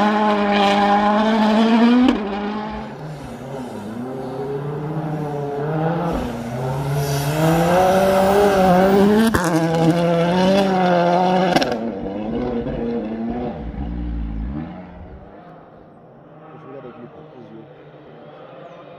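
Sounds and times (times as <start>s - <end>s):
rally car engine revving hard: 0.0s - 15.4s.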